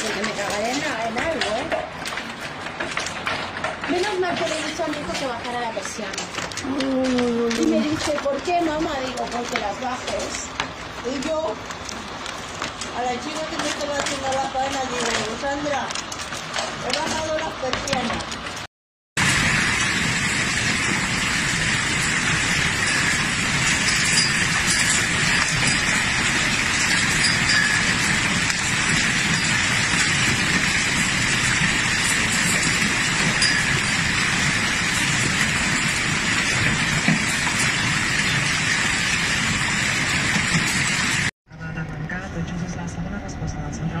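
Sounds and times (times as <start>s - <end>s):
hail falling: 0.0s - 41.3s.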